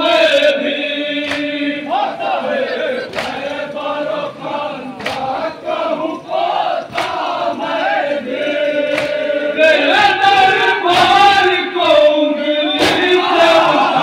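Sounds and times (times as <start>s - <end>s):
men chanting a lament in unison: 0.0s - 14.0s.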